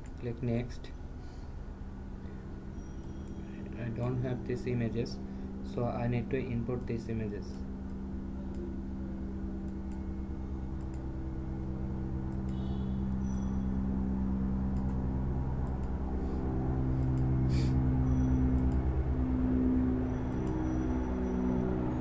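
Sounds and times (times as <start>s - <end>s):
slow ambient music chords: 0.0s - 22.0s
steady low hum: 0.0s - 22.0s.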